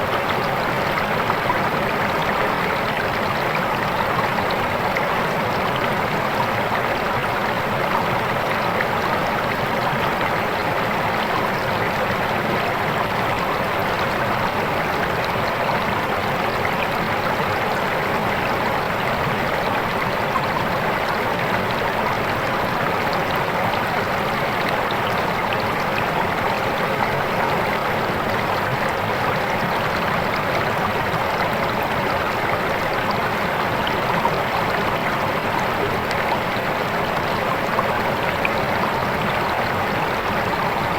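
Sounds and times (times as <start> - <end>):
river water rushing and splashing: 0.0 - 40.9.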